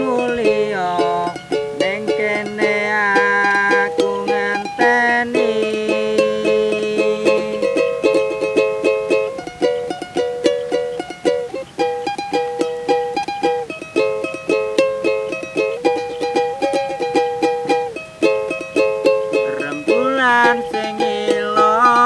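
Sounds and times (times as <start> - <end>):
small string instrument strummed: 0.0 - 22.0.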